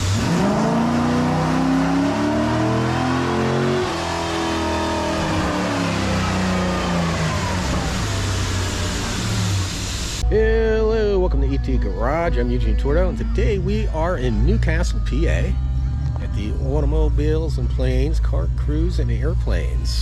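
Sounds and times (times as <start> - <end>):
car engine revving: 0.0 - 10.2, 12.6 - 20.0.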